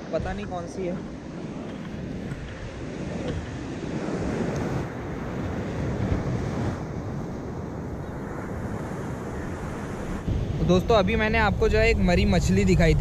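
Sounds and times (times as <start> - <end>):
sea surf on a beach: 0.0 - 13.0
wind rumbling on microphone: 0.0 - 13.0.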